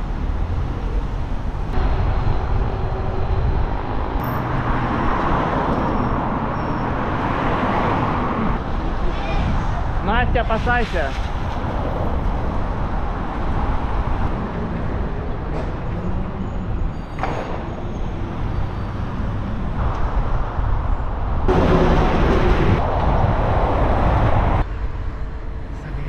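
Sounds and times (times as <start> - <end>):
heavy street traffic rumble: 0.0 - 26.0.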